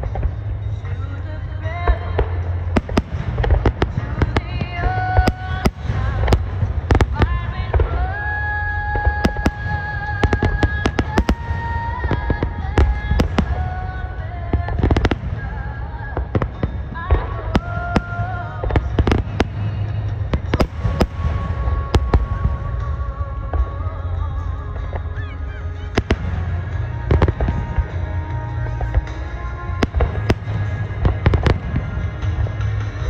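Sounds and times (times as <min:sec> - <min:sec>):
continuous low rumble: 0:00.0 - 0:33.0
fireworks bursting: 0:00.0 - 0:33.0
music with held notes: 0:00.0 - 0:33.0.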